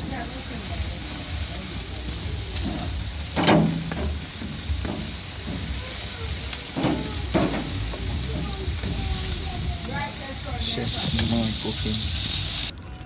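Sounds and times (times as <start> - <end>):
sizzling hiss of cooking: 0.0 - 12.7.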